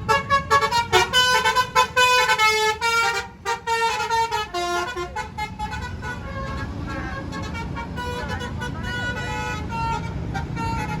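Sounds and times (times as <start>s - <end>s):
bus horn playing a tune: 0.0s - 11.0s
traffic rumble: 0.0s - 11.0s.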